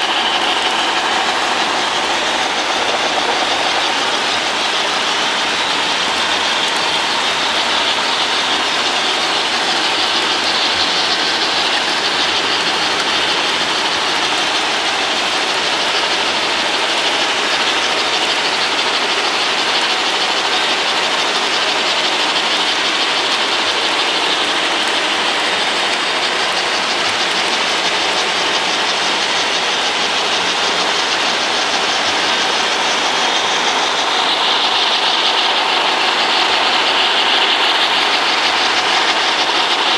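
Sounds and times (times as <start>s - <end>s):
model train whir and clatter: 0.0s - 39.9s.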